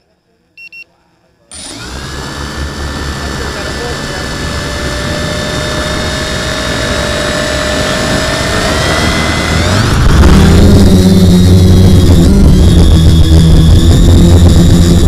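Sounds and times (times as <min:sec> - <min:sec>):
quadcopter motors whining: 0:01.5 - 0:15.0.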